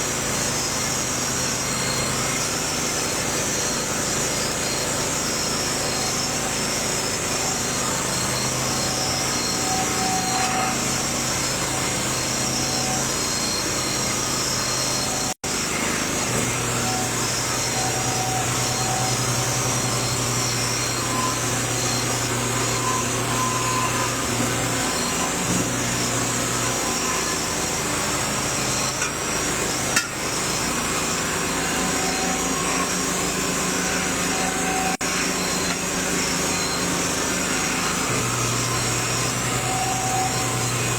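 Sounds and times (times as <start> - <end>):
mechanical running noise: 0.0 - 40.9.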